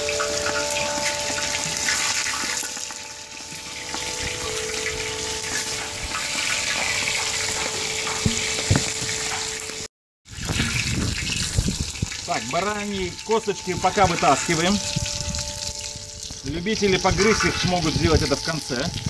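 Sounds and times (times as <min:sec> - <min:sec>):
food sizzling in deep oil: 0:00.0 - 0:19.0.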